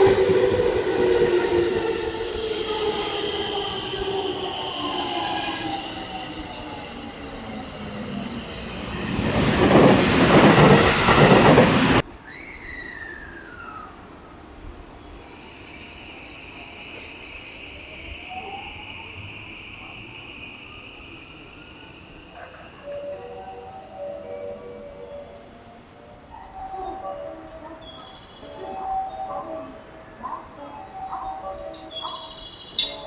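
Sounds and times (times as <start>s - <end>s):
train passing close: 0.0s - 33.0s
train whine: 0.0s - 33.0s.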